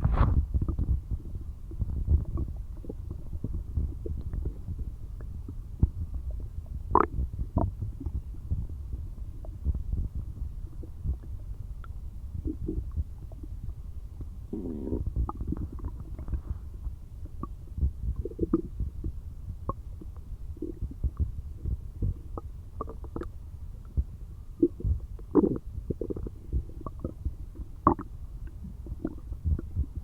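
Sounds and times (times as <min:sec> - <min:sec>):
stomach growling and gurgling: 0:00.0 - 0:30.0.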